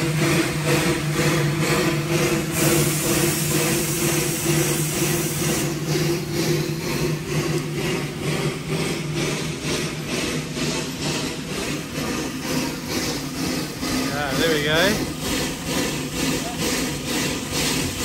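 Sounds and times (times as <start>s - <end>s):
steam hissing: 0.0s - 18.0s
steam locomotive pulsing hum: 0.0s - 18.0s.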